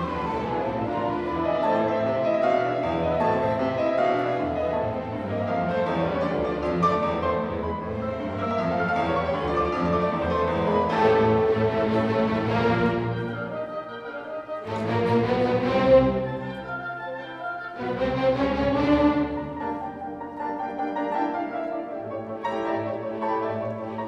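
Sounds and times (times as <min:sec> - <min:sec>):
classical music: 0:00.0 - 0:24.0.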